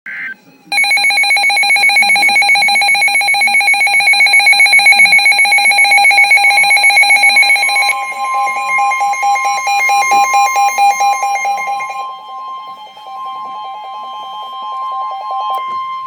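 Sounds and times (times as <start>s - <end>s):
steady higher warning tone: 0.7s - 16.0s
trilling electronic alarm tone: 0.7s - 16.0s.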